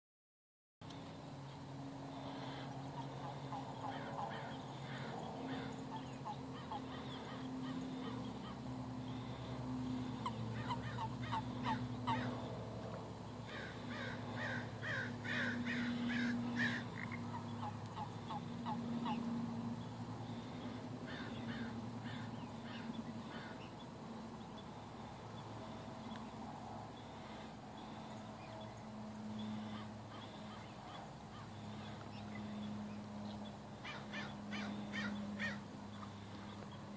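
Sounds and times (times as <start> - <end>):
low steady hum: 0.8 - 36.9
frogs croaking: 1.3 - 36.9.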